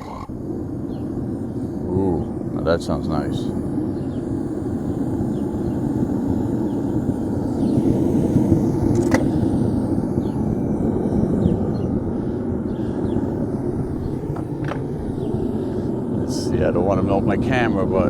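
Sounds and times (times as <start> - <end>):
gas burner roaring: 0.0 - 18.0.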